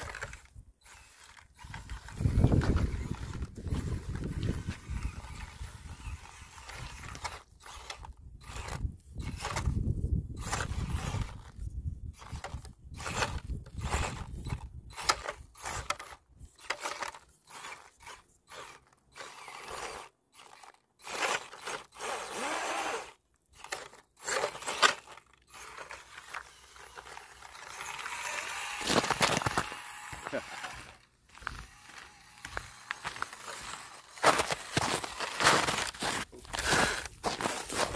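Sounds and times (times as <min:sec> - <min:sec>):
rc car motor whirring: 0:00.0 - 0:37.9.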